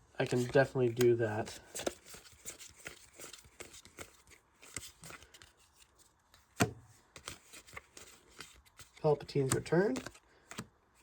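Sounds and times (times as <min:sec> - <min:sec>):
cards tapping and rustling: 0:00.2 - 0:10.8.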